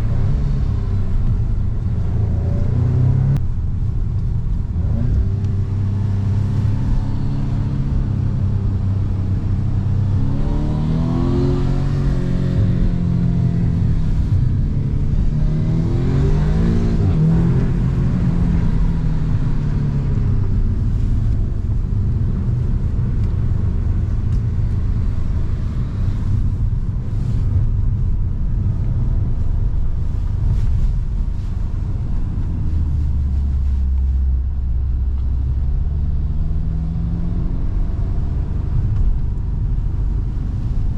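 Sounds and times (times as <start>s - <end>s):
car engine accelerating hard: 0.0s - 3.4s, 4.2s - 34.2s.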